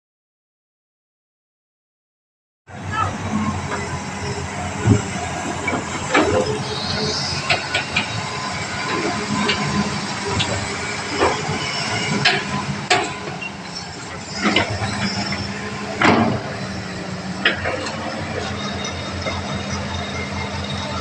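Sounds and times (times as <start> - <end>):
excavator diesel engine running: 2.7 - 21.0.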